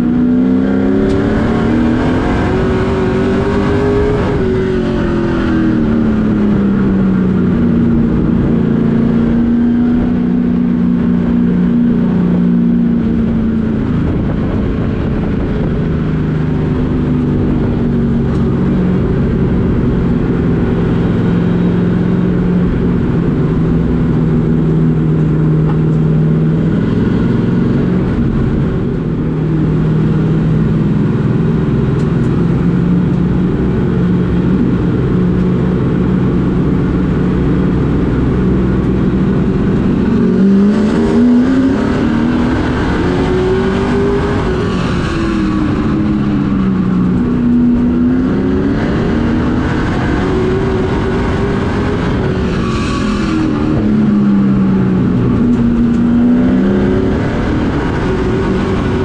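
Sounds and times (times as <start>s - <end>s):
truck engine revving: 0.0s - 59.0s.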